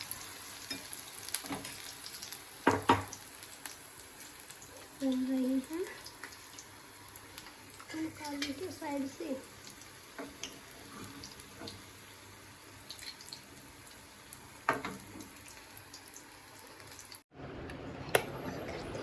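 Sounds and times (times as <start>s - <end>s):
food sizzling in hot oil: 0.0s - 17.3s.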